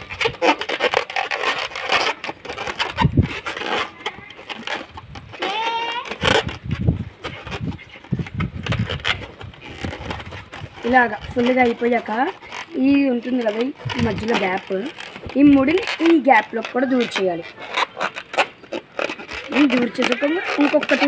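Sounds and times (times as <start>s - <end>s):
rubber balloon squeaking: 0.0s - 21.0s.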